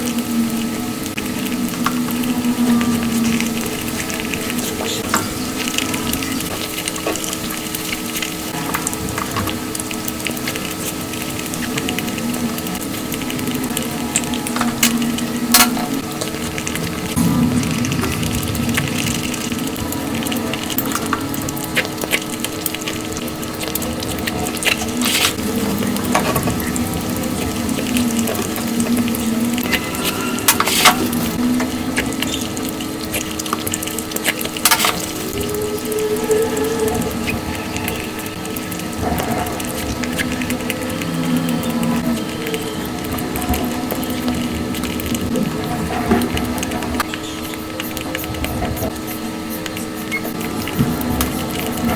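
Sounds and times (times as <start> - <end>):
steady low tone: 0.0 - 7.6, 8.5 - 51.9
faint steady hum: 0.0 - 51.9
rapid chewing and mouth clicks: 0.0 - 51.9.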